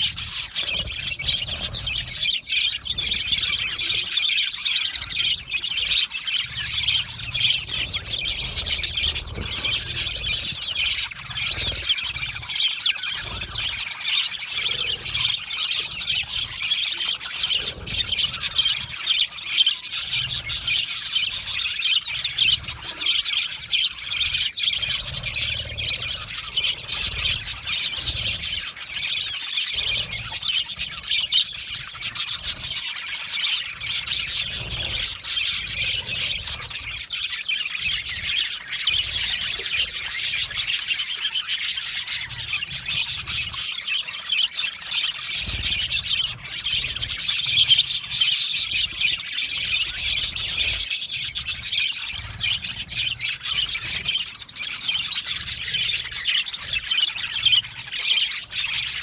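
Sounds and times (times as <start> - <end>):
flock of budgerigars chirping: 0.0 - 59.0.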